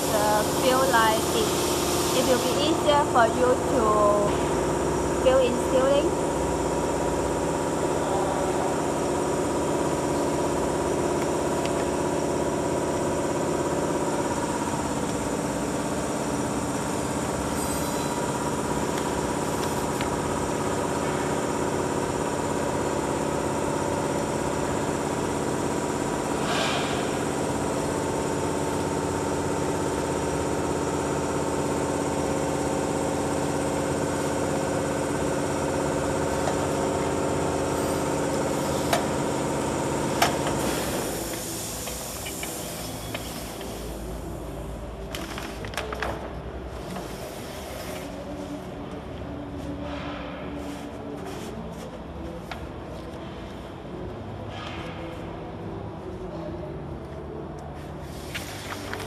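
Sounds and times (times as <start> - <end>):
packaging machinery humming: 0.0 - 59.0.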